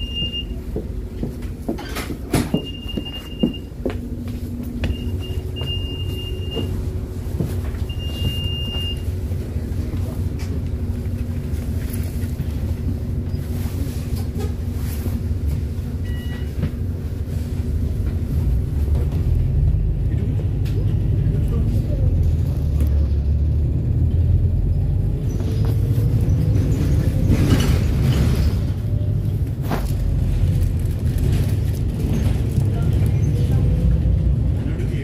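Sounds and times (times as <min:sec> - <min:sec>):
bus engine humming: 0:00.0 - 0:35.0.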